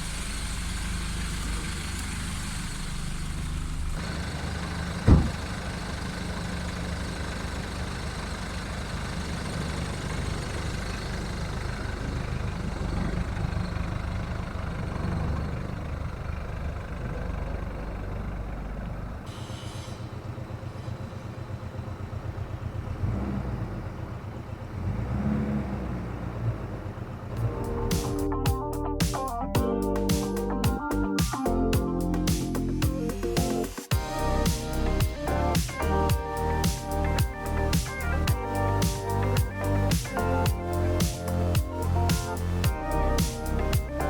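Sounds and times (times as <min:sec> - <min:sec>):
diesel car engine running: 0:00.0 - 0:44.0.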